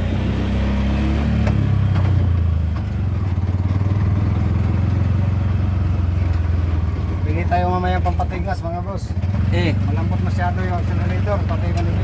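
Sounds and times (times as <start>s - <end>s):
auto-rickshaw engine running: 0.0s - 12.0s.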